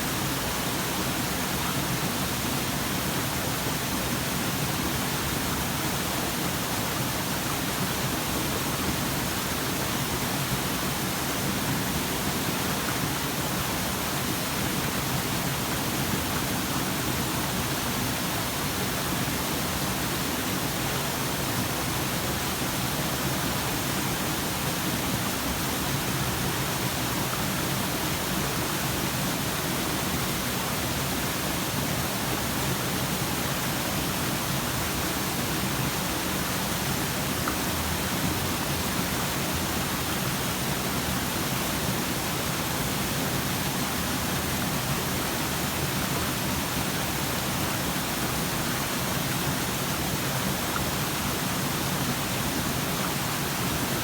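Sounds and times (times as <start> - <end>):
waterfall pouring over rock: 0.0 - 54.0.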